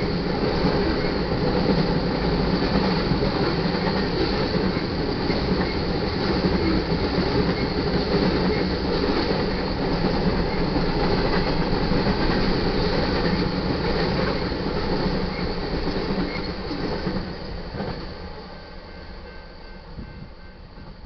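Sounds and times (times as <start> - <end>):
freight train wheels rumbling on track: 0.0 - 21.0.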